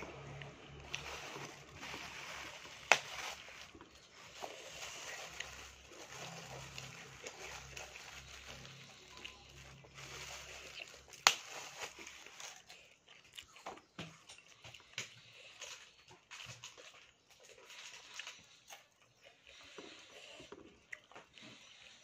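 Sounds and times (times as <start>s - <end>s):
wet chewing: 0.0s - 22.0s.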